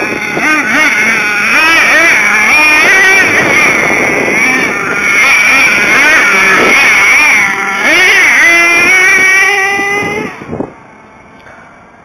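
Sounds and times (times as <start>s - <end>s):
small engine revving high: 0.0s - 11.3s.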